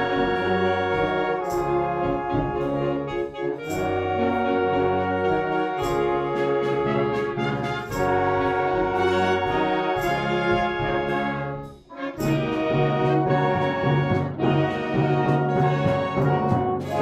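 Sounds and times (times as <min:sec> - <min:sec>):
percussion strokes: 0:00.0 - 0:17.0
wind band brass chords: 0:00.0 - 0:17.0.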